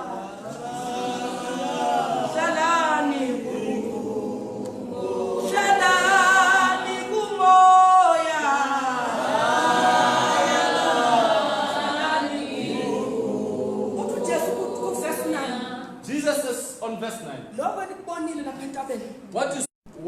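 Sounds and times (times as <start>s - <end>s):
unaccompanied worship singing: 0.0s - 17.0s.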